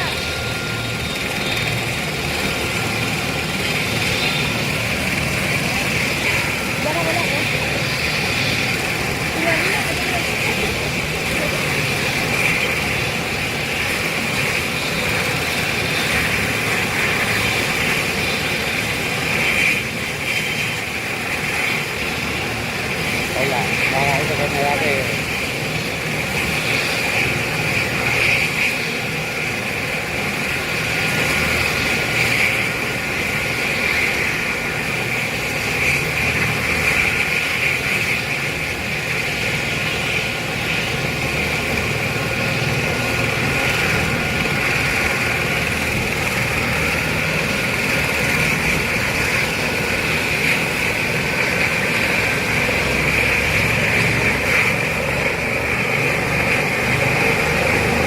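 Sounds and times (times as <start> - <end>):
helicopter turbine engine whine: 0.0 - 58.0.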